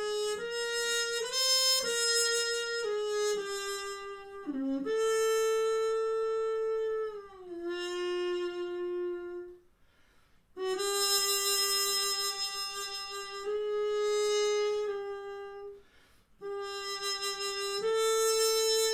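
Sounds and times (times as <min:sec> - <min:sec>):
muted trumpet playing: 0:00.0 - 0:09.6, 0:10.6 - 0:15.8, 0:16.4 - 0:18.9.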